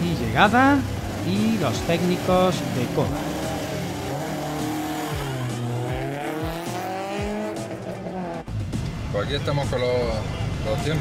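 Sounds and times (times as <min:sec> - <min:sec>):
race car engine revving: 0:00.0 - 0:09.1.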